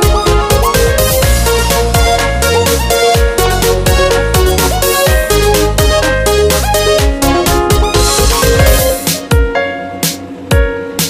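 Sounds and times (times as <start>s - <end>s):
electronic dance music: 0.0s - 10.7s.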